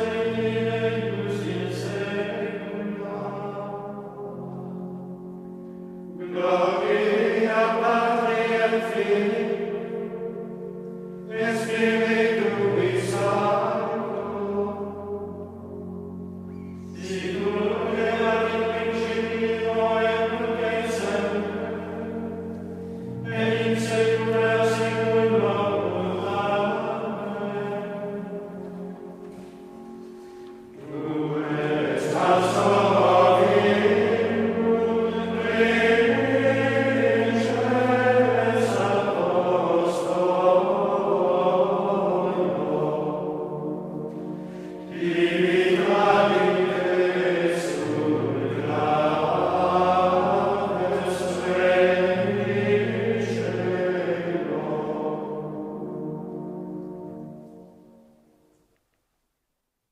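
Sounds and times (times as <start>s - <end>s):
male choir chanting: 0.0s - 4.8s, 6.2s - 10.3s, 11.2s - 15.4s, 16.9s - 29.5s, 30.8s - 56.3s.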